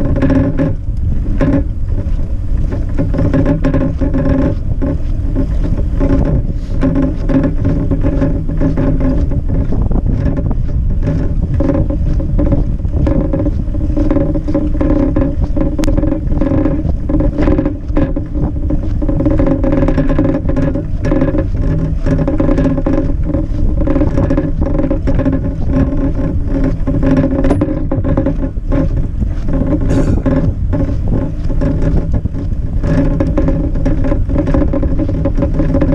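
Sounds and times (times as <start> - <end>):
bike rolling over snow: 0.0 - 35.9
small rattles and knocks: 0.0 - 35.9
steady hum: 0.0 - 35.9.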